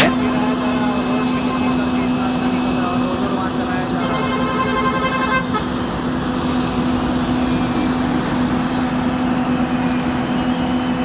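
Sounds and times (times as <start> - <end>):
heavy vehicle engine hum: 0.0 - 11.0
road rumble: 0.0 - 11.0.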